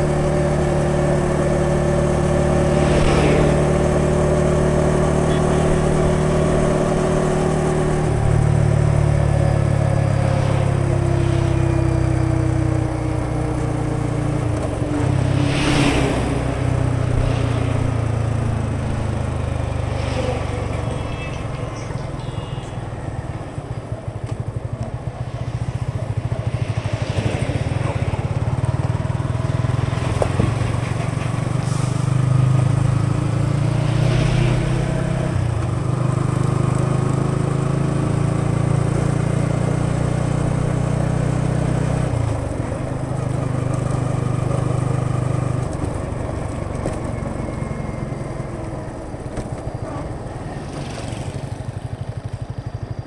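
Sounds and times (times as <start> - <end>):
motorcycle engine and exhaust: 0.0 - 53.0.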